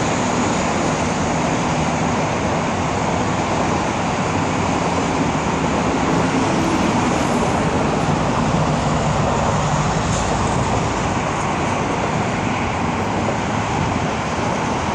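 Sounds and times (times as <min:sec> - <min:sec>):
highway traffic: 0:00.0 - 0:14.9.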